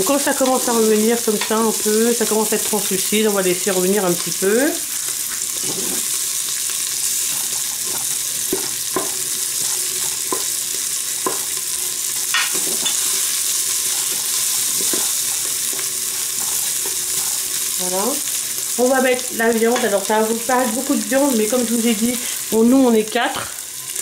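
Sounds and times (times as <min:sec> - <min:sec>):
onion and garlic sizzling in oil: 0:00.0 - 0:24.0.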